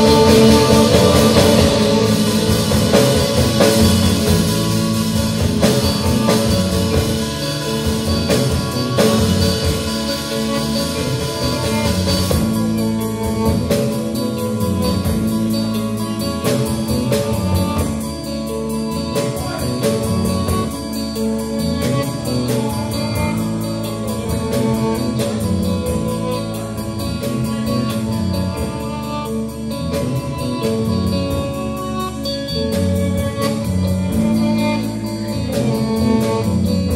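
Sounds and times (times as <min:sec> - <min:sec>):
bass guitar: 0:00.0 - 0:36.9
drum kit beat: 0:00.0 - 0:36.9
electric guitar: 0:00.0 - 0:36.9.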